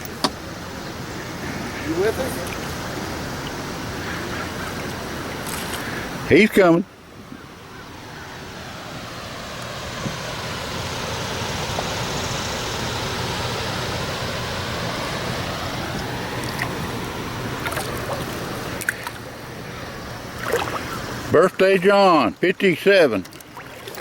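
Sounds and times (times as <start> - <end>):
river water rushing over rocks: 0.0 - 6.4, 8.0 - 21.4.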